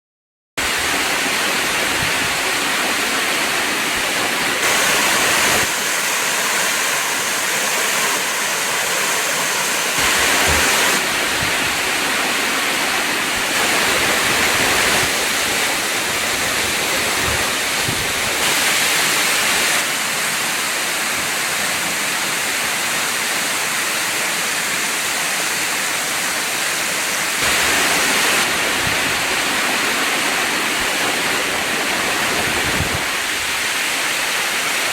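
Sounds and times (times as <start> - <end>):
waterfall rushing and splashing: 0.6 - 34.9.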